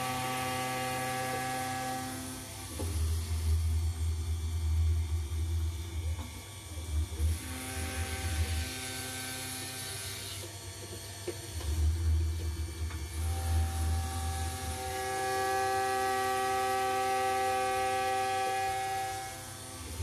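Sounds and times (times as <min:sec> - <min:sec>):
cnc router cutting metal: 0:00.0 - 0:20.0.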